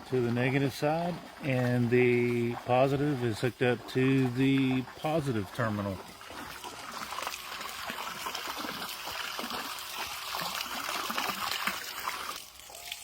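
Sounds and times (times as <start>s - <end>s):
water splashing from a hose: 0.0s - 13.0s.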